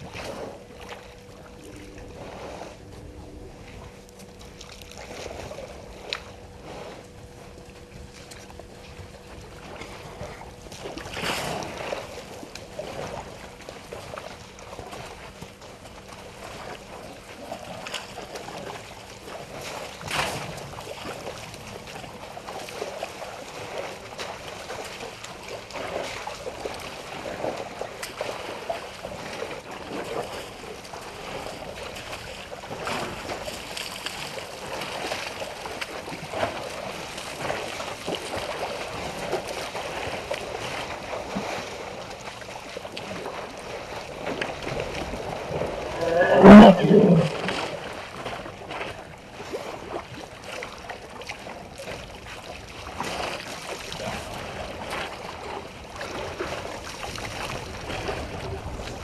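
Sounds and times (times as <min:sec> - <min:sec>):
water sloshing and splashing: 0:00.0 - 0:59.0.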